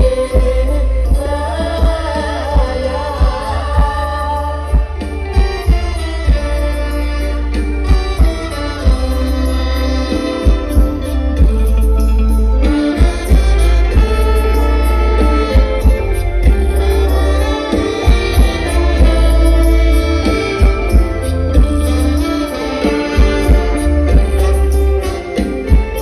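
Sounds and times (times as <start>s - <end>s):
heavy bass line: 0.0s - 26.0s
loud live stage-band music: 0.0s - 26.0s
steady drum beat: 0.0s - 26.0s.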